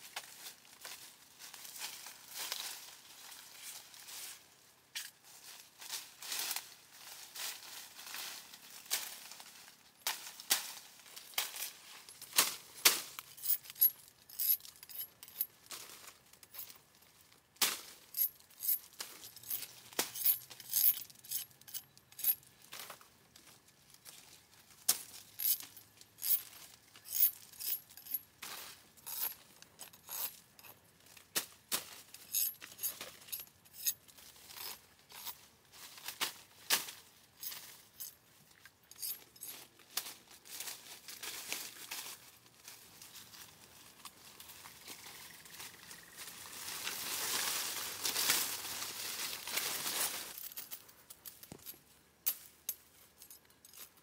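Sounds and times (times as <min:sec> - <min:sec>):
leaves and twigs crackling underfoot: 0:00.0 - 0:54.0.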